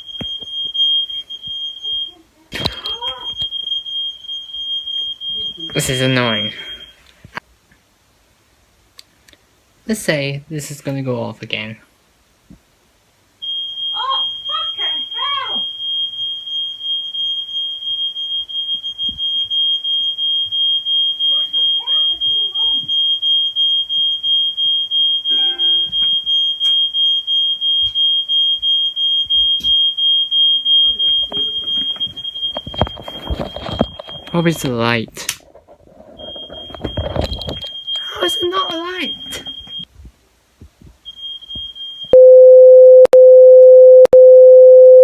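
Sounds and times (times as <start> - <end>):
smoke alarm pulsing high tone: 0.0 - 7.1, 13.4 - 34.9, 36.1 - 39.9, 41.0 - 45.0.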